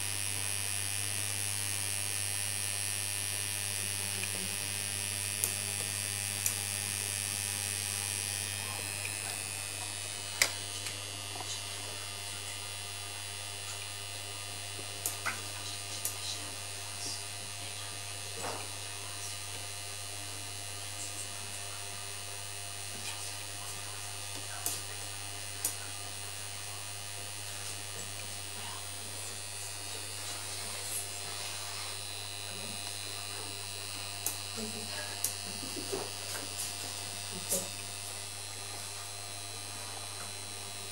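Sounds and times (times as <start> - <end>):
steady electrical motor hum: 0.0 - 40.9.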